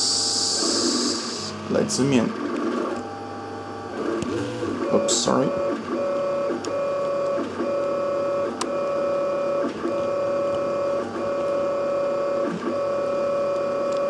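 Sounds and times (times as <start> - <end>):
stepper motors whining: 0.0 - 3.2, 3.8 - 14.0.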